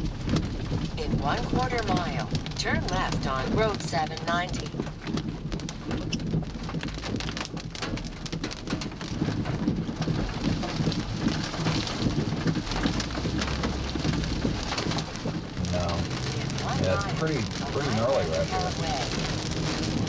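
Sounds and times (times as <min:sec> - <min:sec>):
engine and road noise rumble: 0:00.0 - 0:20.0
heavy rain on vehicle roof: 0:00.0 - 0:20.0.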